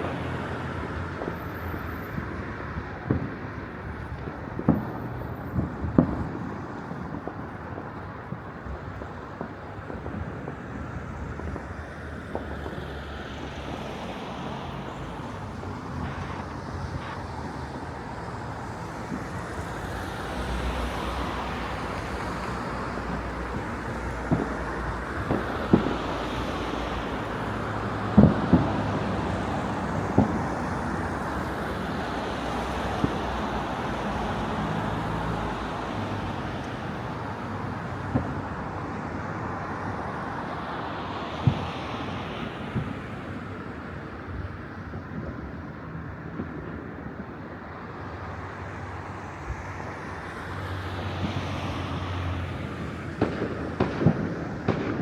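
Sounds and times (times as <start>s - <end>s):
distant fireworks bangs: 0.0s - 19.7s, 20.3s - 40.3s, 41.4s - 43.2s, 43.8s - 48.2s, 52.6s - 55.0s
city noise: 0.0s - 55.0s
wind: 0.0s - 55.0s.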